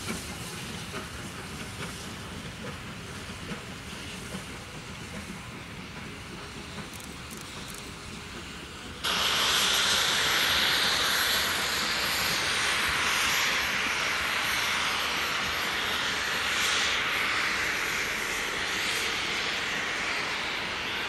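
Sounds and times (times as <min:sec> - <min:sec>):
steam locomotive hissing steam: 0:00.0 - 0:21.0.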